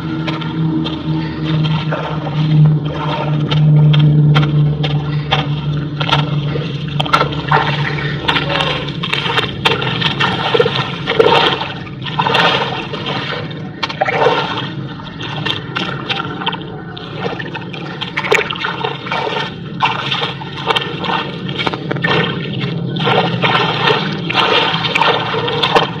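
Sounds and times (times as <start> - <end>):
muddy water sloshing and splashing: 0.0 - 26.0
steady low hum: 0.0 - 26.0.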